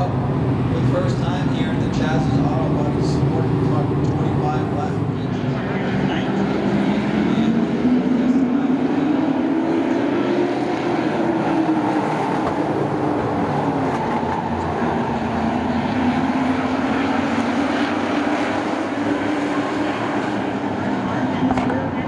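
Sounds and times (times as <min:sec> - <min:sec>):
racing truck engines: 0:00.0 - 0:22.0.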